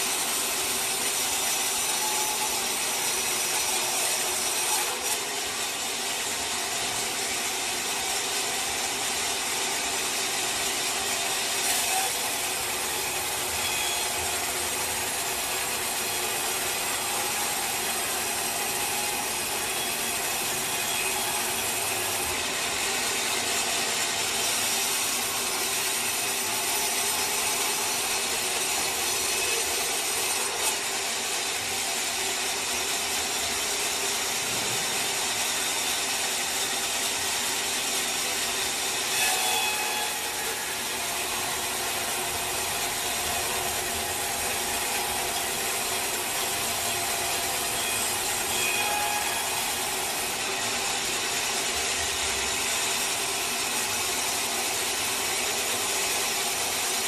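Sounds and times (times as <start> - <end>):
saw cutting through wood: 0.0 - 57.0.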